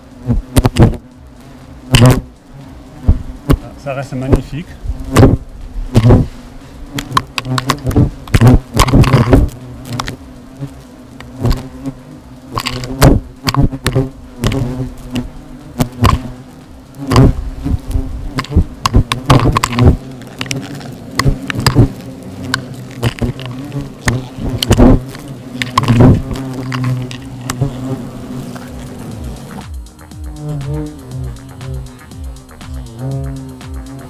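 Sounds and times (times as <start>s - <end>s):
hornets buzzing: 0.0s - 34.0s.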